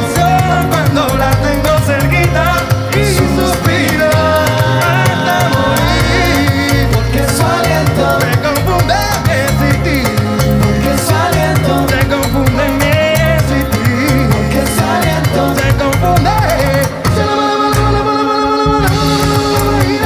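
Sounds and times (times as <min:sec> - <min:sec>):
funk band playing: 0:00.0 - 0:20.0.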